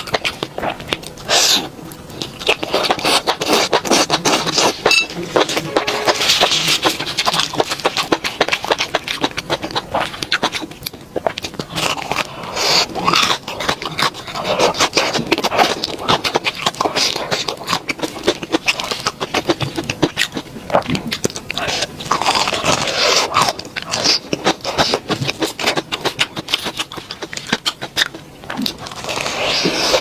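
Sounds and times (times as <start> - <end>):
crunching and chewing: 0.0 - 30.0.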